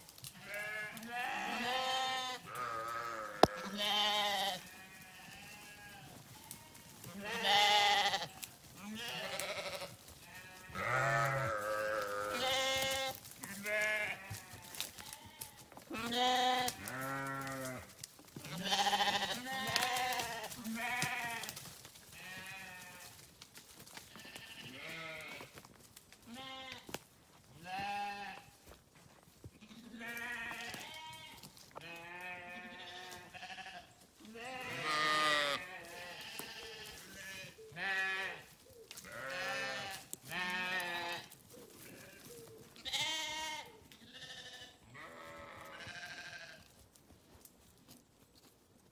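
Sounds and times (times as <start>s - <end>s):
sheep bleating: 0.4s - 21.6s, 22.2s - 23.1s, 24.1s - 25.5s, 26.3s - 26.9s, 27.6s - 28.5s, 29.6s - 46.7s.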